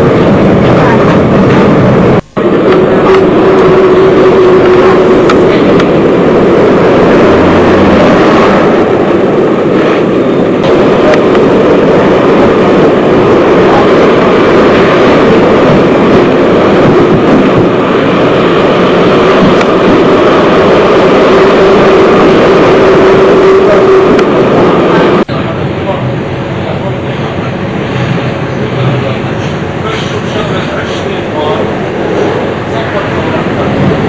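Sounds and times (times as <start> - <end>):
diesel railcar engine: 0.0 - 34.0.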